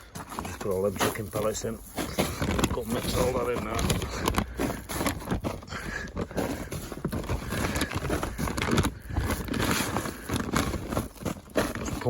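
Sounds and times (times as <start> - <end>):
bag and compost rustling: 0.0 - 12.0.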